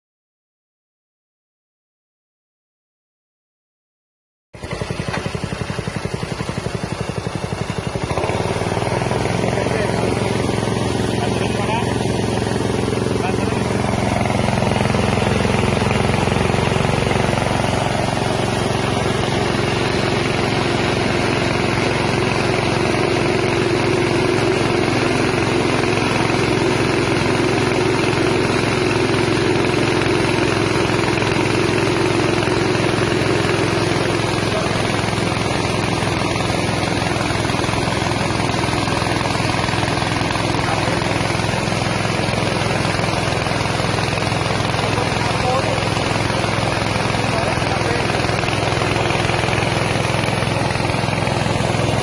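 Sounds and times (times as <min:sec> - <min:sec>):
rice milling machine running: 0:04.6 - 0:52.0.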